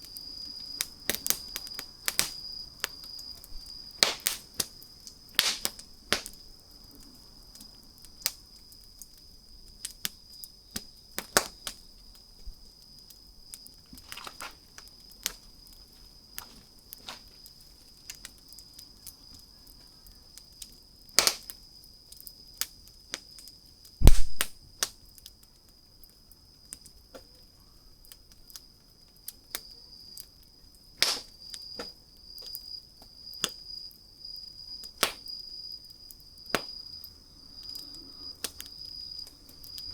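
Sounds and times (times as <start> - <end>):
wood fire crackling and popping: 0.0 - 27.4, 28.0 - 39.9
insect trill: 0.0 - 39.9.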